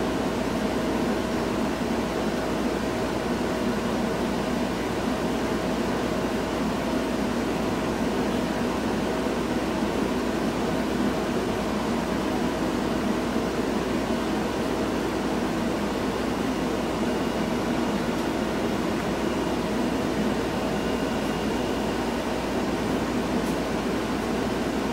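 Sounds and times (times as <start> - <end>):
mechanical hum and hiss: 0.0 - 24.9.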